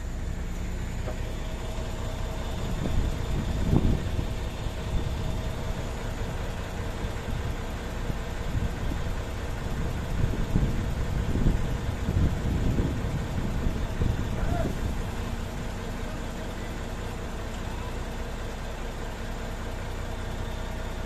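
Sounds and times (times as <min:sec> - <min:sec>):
diesel crane engine running: 0:00.0 - 0:21.0.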